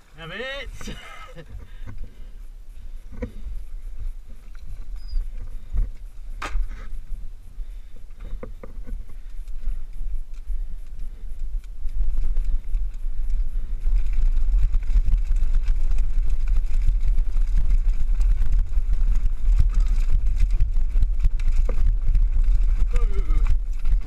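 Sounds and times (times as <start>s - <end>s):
wind rumbling on microphone: 0.0s - 24.0s
mountain bike rattling over stones: 0.1s - 24.0s.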